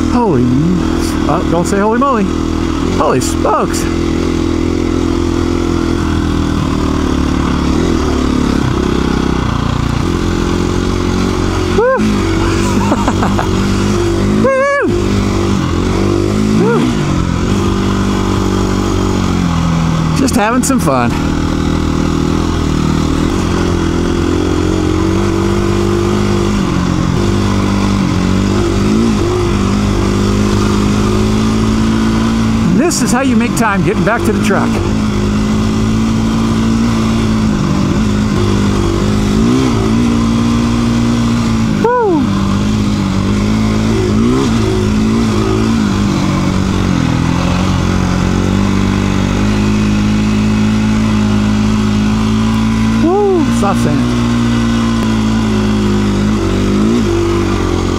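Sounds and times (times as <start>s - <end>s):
motorcycle engine running hard: 0.0s - 57.9s.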